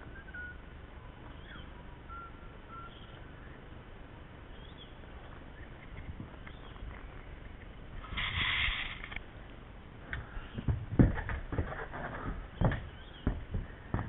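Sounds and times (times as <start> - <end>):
faint bird calls: 0.0 - 3.7, 4.5 - 9.1, 10.1 - 13.9.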